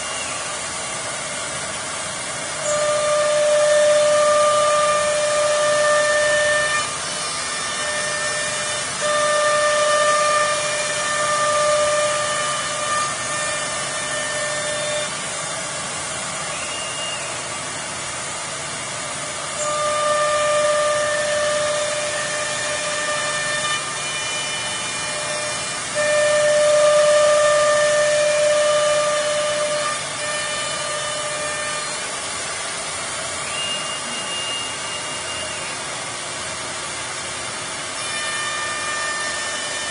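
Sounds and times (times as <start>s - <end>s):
router hiss: 0.0s - 39.9s
router whine: 0.0s - 39.9s.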